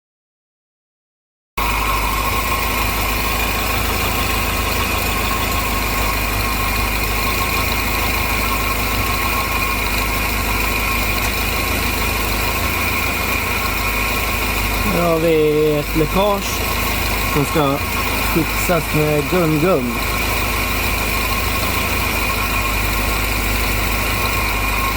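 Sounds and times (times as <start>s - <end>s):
car engine idling: 1.6s - 24.9s.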